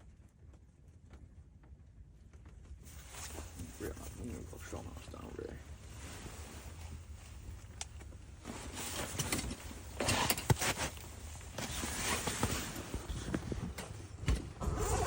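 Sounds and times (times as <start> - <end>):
rustling and scraping: 2.5 - 15.0.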